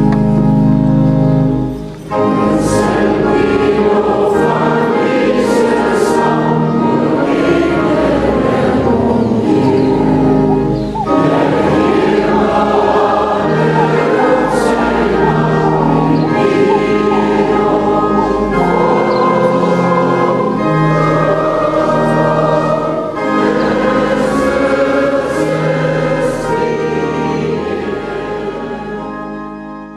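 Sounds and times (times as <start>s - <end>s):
choir singing sustained chords: 0.0s - 29.9s.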